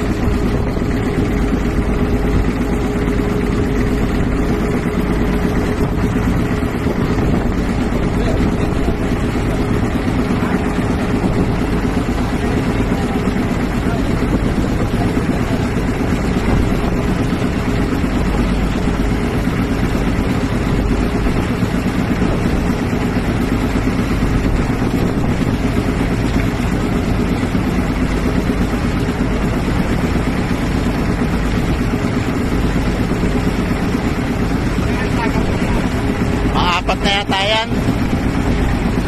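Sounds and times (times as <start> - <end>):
engine idling: 0.0 - 39.0
water churning and splashing: 0.0 - 39.0.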